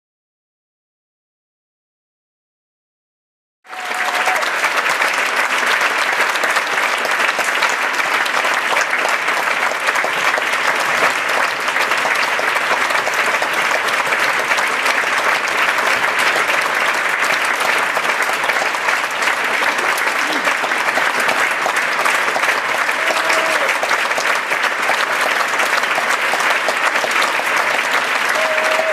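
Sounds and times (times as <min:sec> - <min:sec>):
audience applauding: 0:03.7 - 0:28.9.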